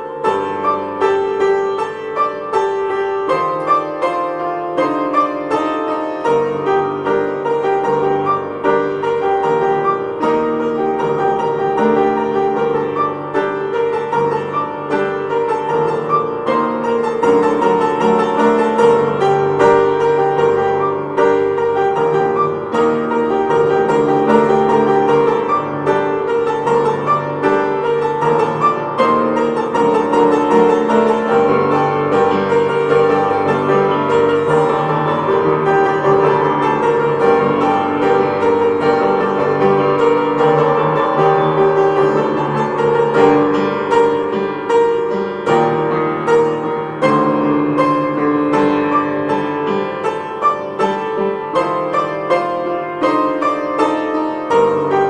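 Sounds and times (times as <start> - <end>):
piano music: 0.0 - 55.0.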